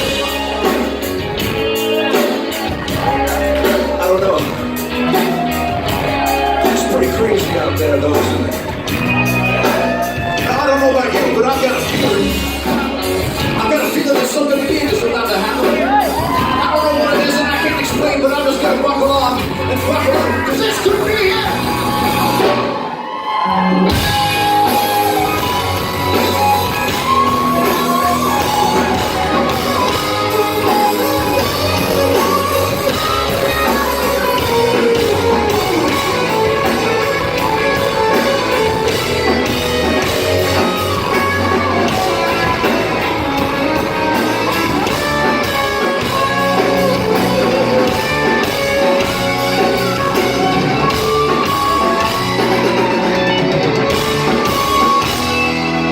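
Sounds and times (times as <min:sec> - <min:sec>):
live heavy rock band: 0:00.0 - 0:55.9.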